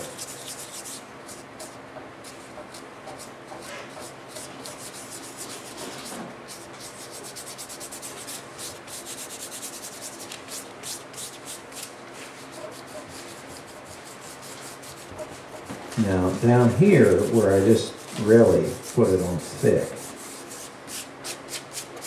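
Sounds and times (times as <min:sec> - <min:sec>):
fingertips rubbing paper: 0:00.0 - 0:22.0.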